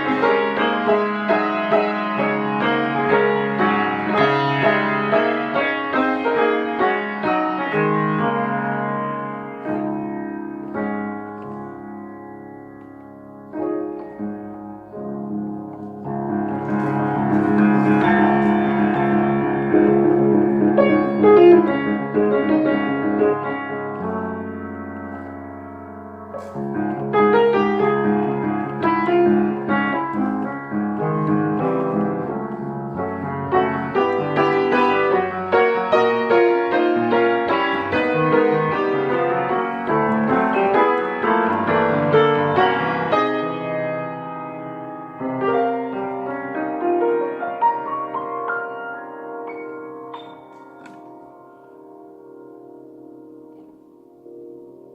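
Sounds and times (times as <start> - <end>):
piano music: 0.0 - 54.9.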